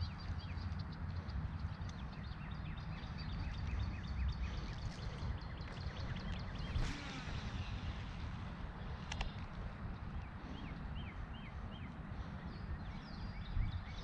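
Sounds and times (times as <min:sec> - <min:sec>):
small birds chirping: 0:00.0 - 0:14.0
wind buffeting microphone: 0:00.0 - 0:14.0.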